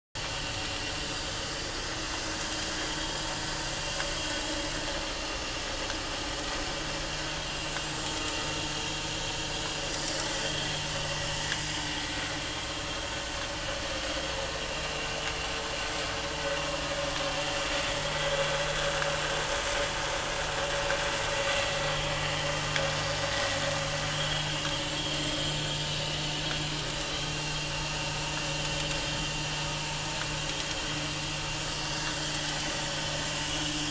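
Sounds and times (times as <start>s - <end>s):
grinder motor hum with hiss: 0.2s - 33.9s.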